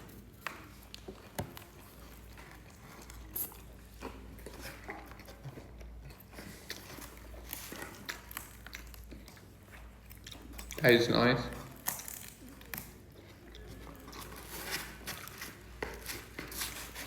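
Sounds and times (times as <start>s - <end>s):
person chewing pizza: 0.0s - 17.0s.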